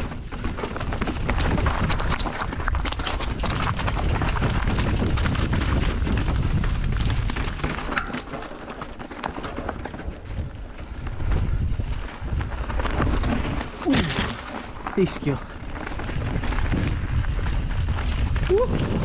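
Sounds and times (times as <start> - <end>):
bike rattling: 0.0 - 19.0
tyres on rock and gravel: 0.0 - 19.0
wind rumble on microphone: 0.0 - 19.0.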